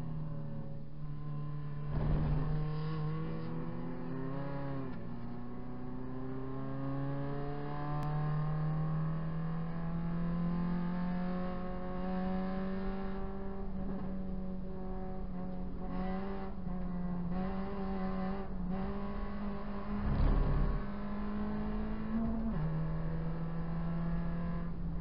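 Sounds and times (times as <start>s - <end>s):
race car engine revving: 1.3s - 25.0s.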